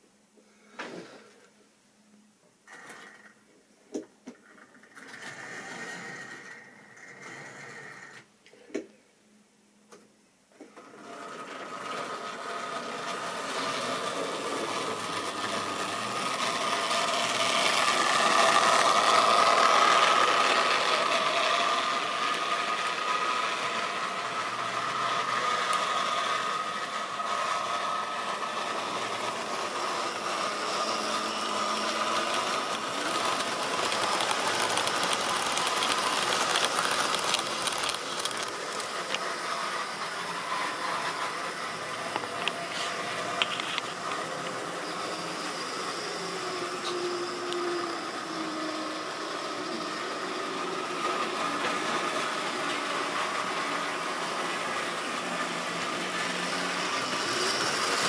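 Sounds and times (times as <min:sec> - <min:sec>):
model train running on track: 0:11.0 - 0:58.0.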